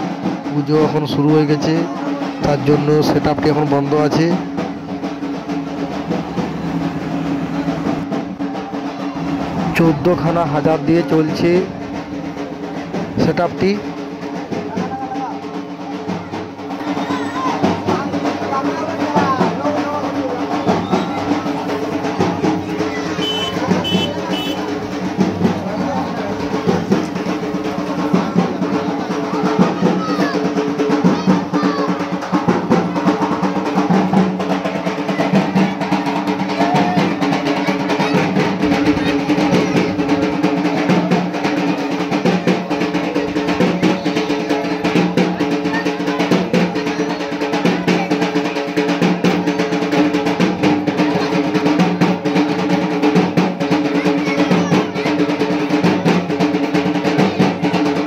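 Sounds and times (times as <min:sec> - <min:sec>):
rapid drumming with rolls: 0:00.0 - 0:58.0.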